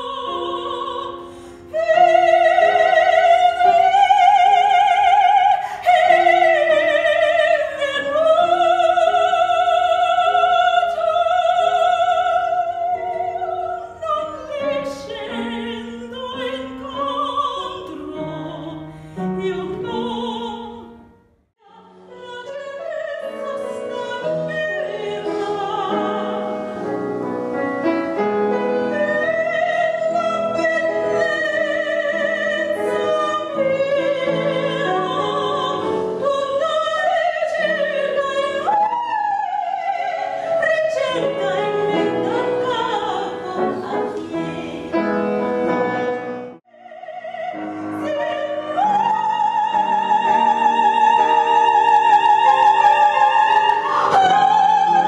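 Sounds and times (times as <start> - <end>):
woman singing opera: 0.0 - 21.0, 21.6 - 27.0, 28.1 - 46.1, 46.7 - 55.0
piano accompaniment: 0.0 - 55.0.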